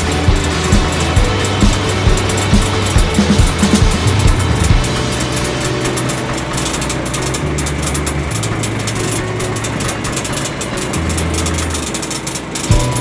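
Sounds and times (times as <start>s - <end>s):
combine harvester machinery: 0.0s - 13.0s.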